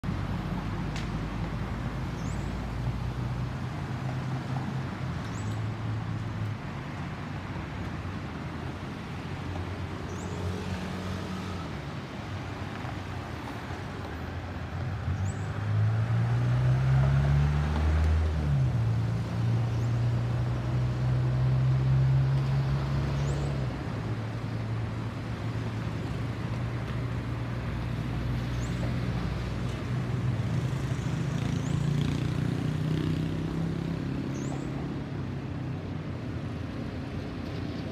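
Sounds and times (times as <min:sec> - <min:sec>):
road traffic engine hum: 0:00.0 - 0:37.9.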